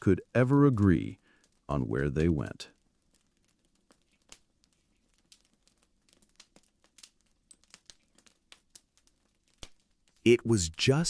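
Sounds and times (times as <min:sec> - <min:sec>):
fireplace crackling: 0:00.0 - 0:11.0.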